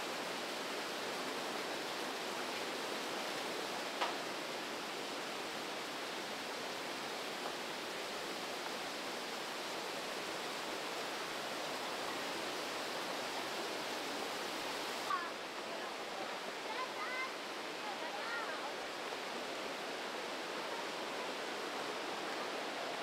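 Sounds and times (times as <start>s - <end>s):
river white water rushing: 0.0s - 23.0s.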